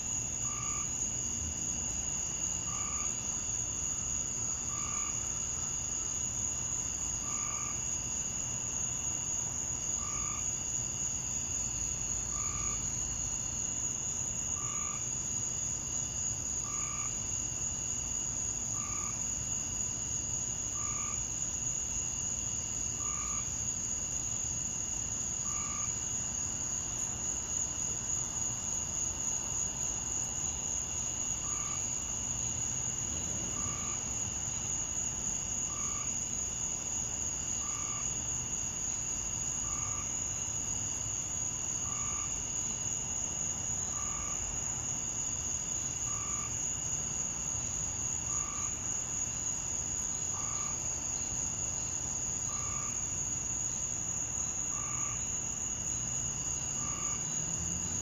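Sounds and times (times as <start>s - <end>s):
crickets and katydids trilling: 0.0s - 58.0s
faint steady insect drone: 0.0s - 58.0s.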